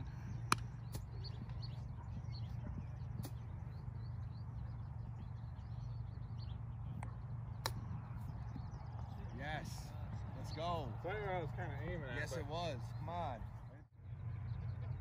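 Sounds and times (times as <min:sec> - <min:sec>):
faint birds chirping: 0:00.0 - 0:15.0
low outdoor rumble: 0:00.0 - 0:15.0.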